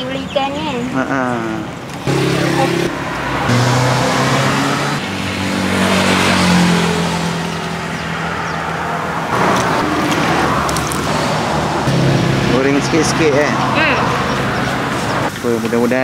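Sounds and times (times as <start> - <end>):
vehicle engine running: 2.0 - 15.3.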